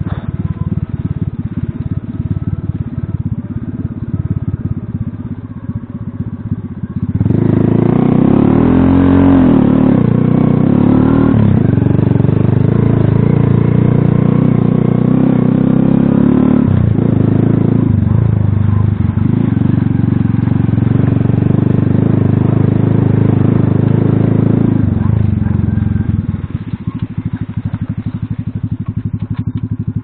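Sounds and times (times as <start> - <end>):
moped engine under throttle: 0.0 - 30.0.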